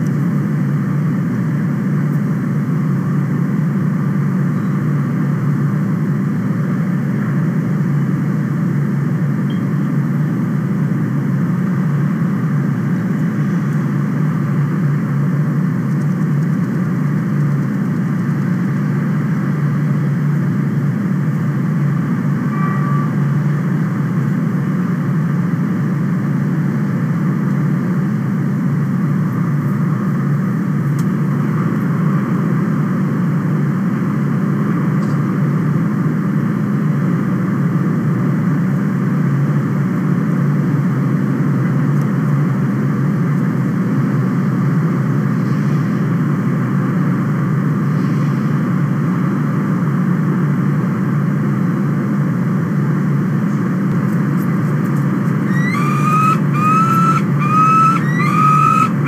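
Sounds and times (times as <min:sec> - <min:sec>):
ventilation equipment humming: 0:00.0 - 0:45.3, 0:48.7 - 0:59.0.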